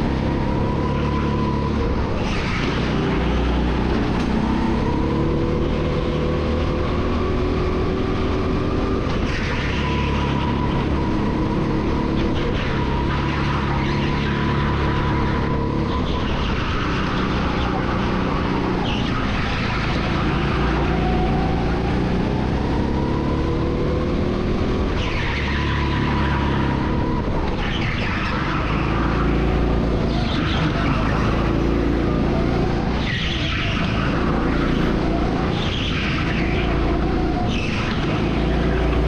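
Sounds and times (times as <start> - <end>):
go-kart engine revving: 0.0 - 39.0.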